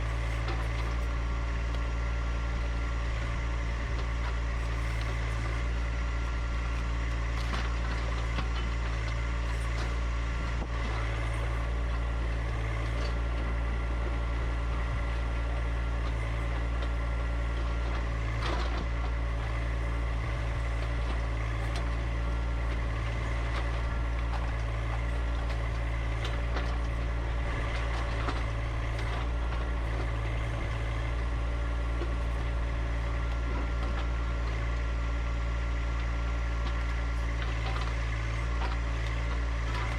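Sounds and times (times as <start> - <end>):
tractor diesel engine running: 0.0 - 39.9
faint clicks and knocks: 3.9 - 39.9.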